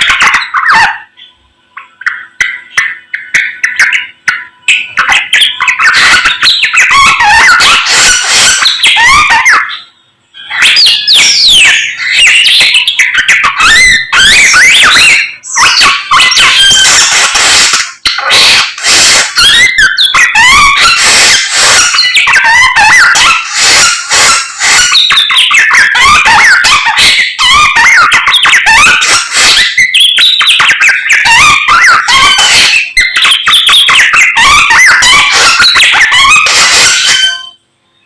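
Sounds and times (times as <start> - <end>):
songbird chirping and whistling: 0.0 - 38.0.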